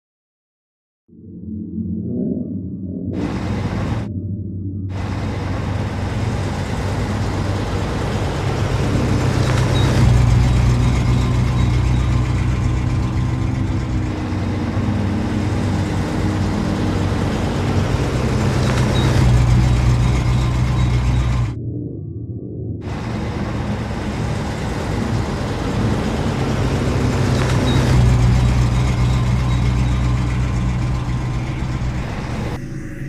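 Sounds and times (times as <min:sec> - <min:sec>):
road noise: 0:03.2 - 0:04.1, 0:04.9 - 0:21.6, 0:22.8 - 0:32.8
low car engine hum: 0:03.2 - 0:21.6, 0:22.8 - 0:33.0.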